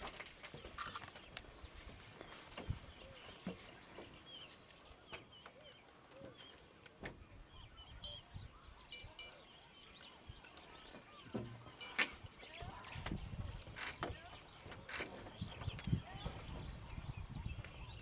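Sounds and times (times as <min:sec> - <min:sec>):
bird chirps and calls: 0:00.2 - 0:18.0.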